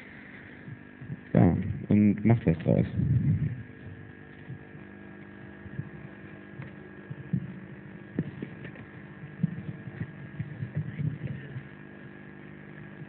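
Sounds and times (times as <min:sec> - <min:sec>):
sound system hum: 0:00.0 - 0:13.0.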